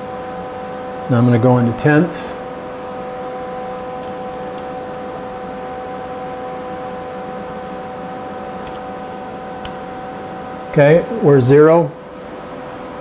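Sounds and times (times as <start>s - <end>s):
milling machine hum: 0.0s - 13.0s.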